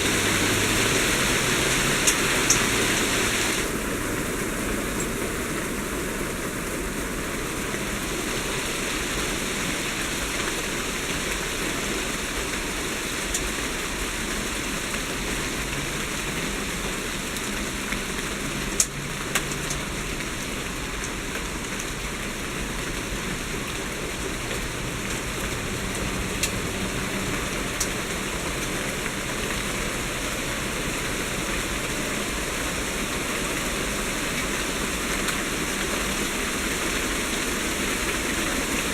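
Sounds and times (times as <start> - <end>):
hail pelting down: 0.0 - 38.9.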